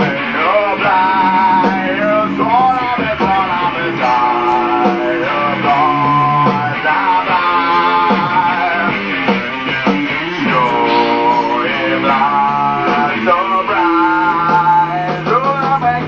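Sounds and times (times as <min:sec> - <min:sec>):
electric guitar playing: 0:00.0 - 0:16.0
man singing into a microphone: 0:00.0 - 0:16.0.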